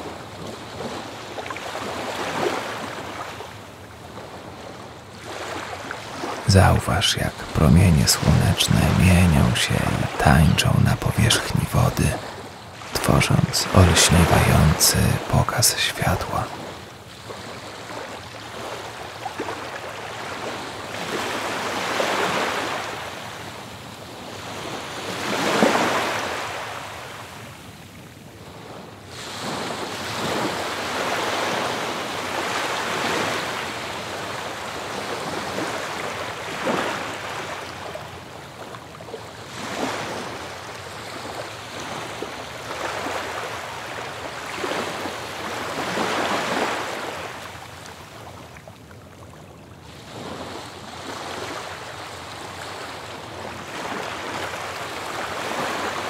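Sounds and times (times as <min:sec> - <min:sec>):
ocean waves washing onto beach: 0:00.0 - 0:56.0.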